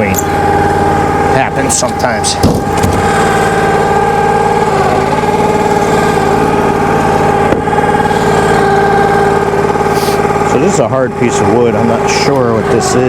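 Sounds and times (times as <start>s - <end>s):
small engine running: 0.0s - 13.0s
steady tonal hum: 0.0s - 13.0s.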